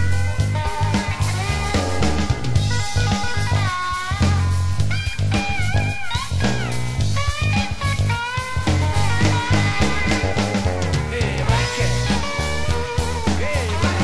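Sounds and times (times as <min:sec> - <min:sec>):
bass line: 0:00.0 - 0:14.0
drums: 0:00.0 - 0:14.0
lead guitar bent notes: 0:00.0 - 0:14.0.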